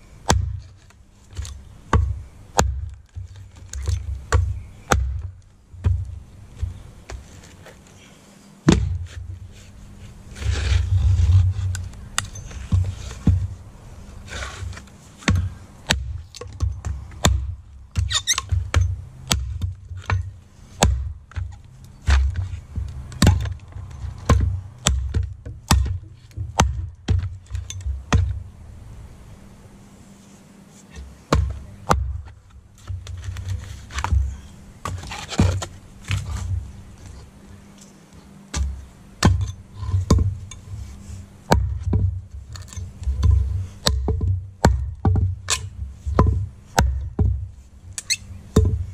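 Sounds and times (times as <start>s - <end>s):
hatchet chopping log: 0.2s - 7.2s, 8.6s - 9.3s, 10.4s - 13.5s, 14.2s - 28.4s, 30.9s - 36.7s, 38.5s - 48.9s.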